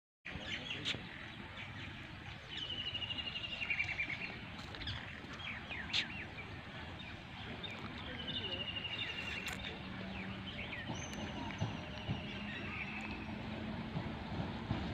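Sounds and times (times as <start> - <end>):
bird chirps: 0.3 - 13.7.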